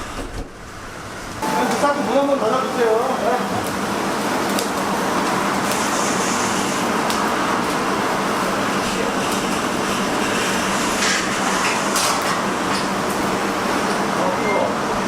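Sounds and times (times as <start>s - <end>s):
roasting machine whirring: 0.0s - 15.0s.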